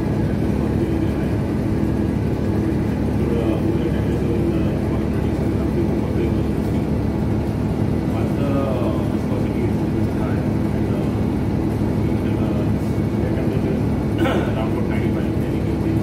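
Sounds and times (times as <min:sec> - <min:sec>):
engine-room machinery hum: 0:00.0 - 0:16.0.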